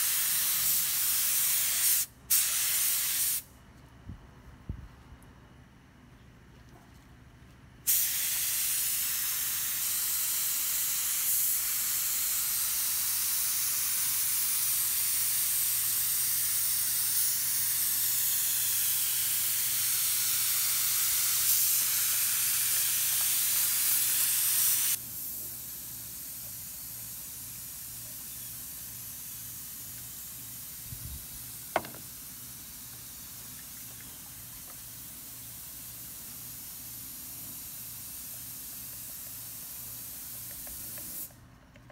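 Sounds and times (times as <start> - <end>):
paint spray gun hissing: 0.0 - 3.5, 7.9 - 33.8, 34.6 - 41.4
quieter steady hiss: 7.5 - 41.8.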